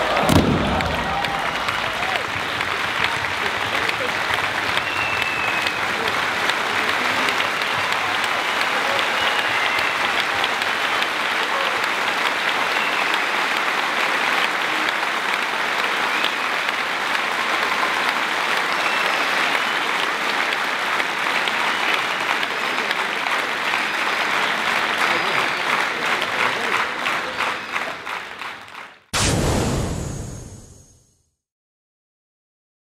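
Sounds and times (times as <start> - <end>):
large audience applauding: 0.0 - 29.1.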